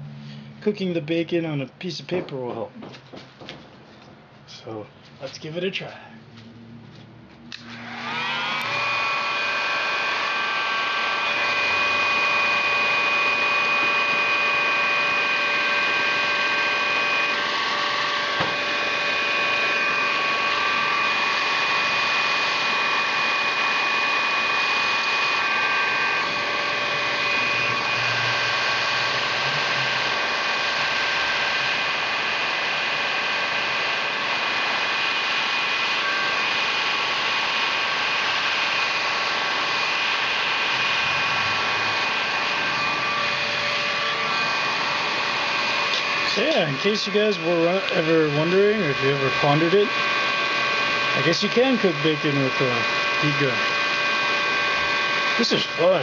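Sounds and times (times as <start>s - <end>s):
fan motor whine: 0.0s - 56.0s
heat gun blowing air: 7.5s - 56.0s.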